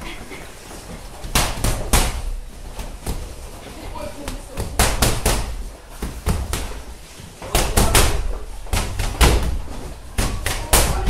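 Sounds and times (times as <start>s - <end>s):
boxing gloves punching bags: 1.0s - 3.6s, 4.2s - 11.0s.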